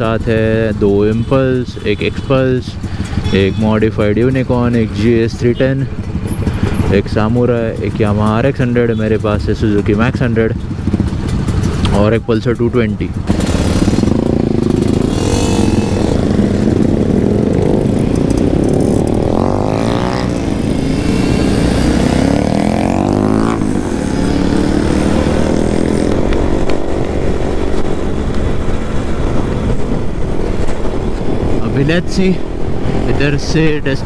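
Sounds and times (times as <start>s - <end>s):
other motorcycles nearby: 0.0s - 34.0s
two-stroke motorcycle engine: 0.0s - 34.0s.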